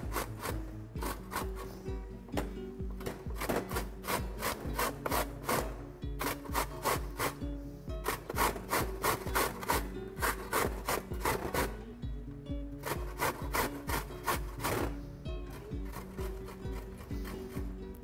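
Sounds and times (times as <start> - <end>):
carrot rasping on box grater: 0.0 - 1.9, 3.3 - 11.8, 12.8 - 18.0.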